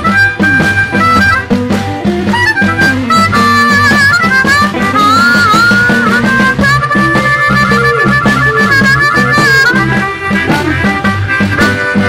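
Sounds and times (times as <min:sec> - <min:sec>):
blues band playing: 0:00.0 - 0:12.0
harmonica bending notes: 0:00.0 - 0:12.0.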